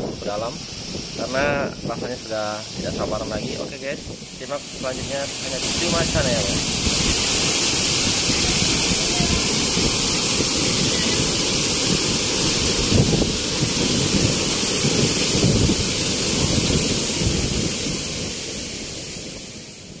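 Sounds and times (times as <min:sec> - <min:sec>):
waterfall roaring: 0:00.0 - 0:20.0
wind buffeting microphone: 0:00.0 - 0:20.0.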